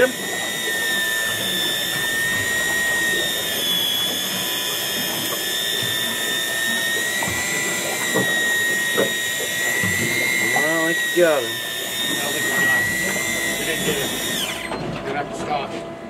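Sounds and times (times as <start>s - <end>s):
fishing reel motor whining: 0.0s - 15.6s.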